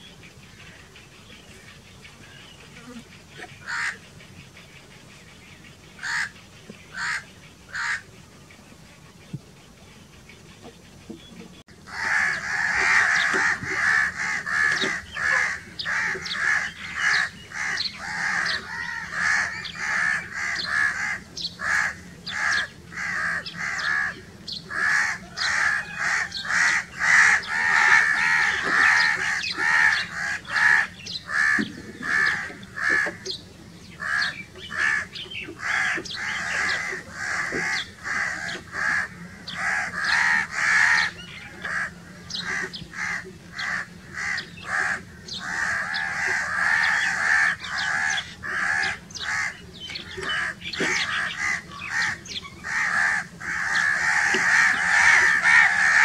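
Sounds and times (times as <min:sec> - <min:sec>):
crow cawing: 0:03.6 - 0:04.0, 0:06.0 - 0:06.3, 0:06.9 - 0:08.1, 0:11.8 - 0:33.3, 0:34.0 - 0:56.0.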